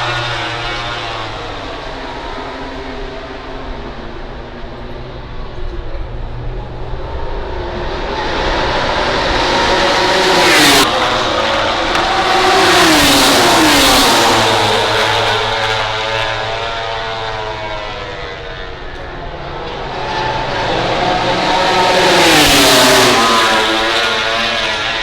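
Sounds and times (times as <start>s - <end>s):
racing motorcycle engine: 0.0s - 5.6s, 6.2s - 25.0s.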